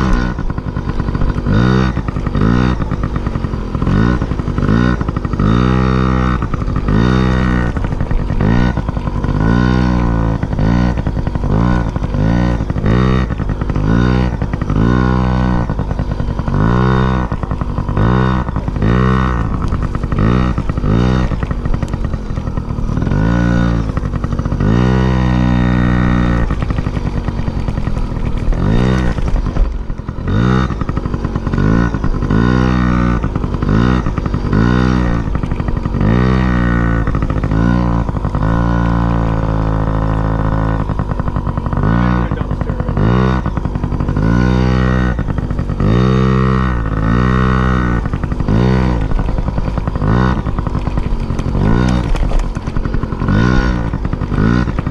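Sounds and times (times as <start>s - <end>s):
engine revving: 0.0s - 54.9s.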